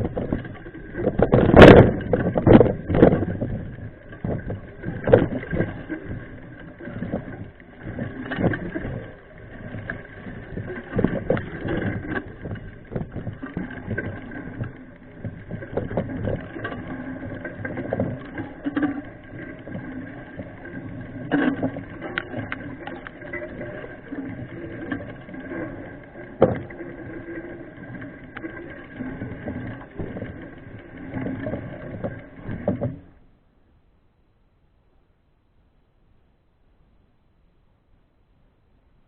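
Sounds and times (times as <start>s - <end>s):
bike rattling on dirt trail: 0.0s - 33.2s.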